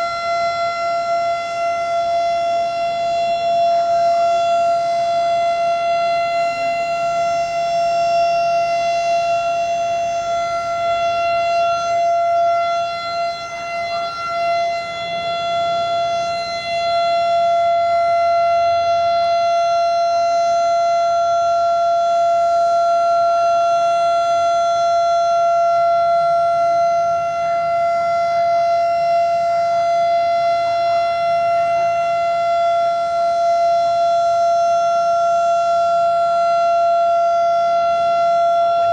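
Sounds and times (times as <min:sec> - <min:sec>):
high steady alarm tone: 0:00.0 - 0:38.9.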